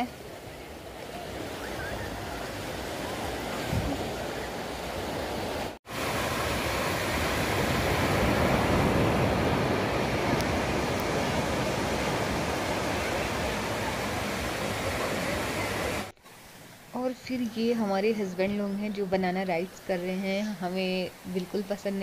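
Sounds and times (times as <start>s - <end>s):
ocean surf washing on beach: 0.0s - 18.6s.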